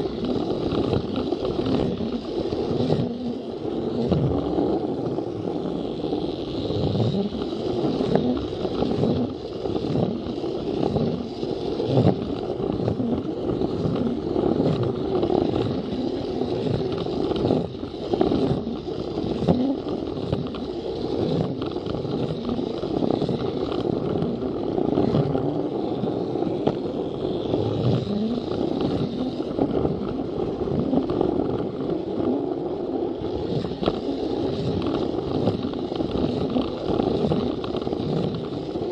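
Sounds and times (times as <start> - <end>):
toy train motor whine: 0.0 - 38.9
toy train rattling on track: 0.0 - 38.9.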